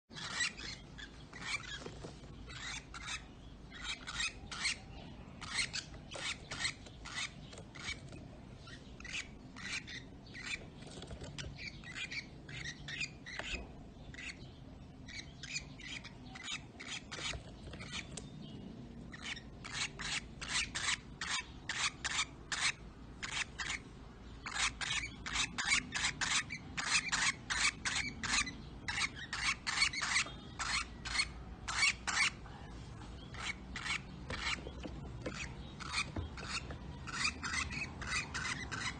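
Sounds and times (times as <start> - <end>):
lovebirds rasping chatter: 0.1 - 38.9.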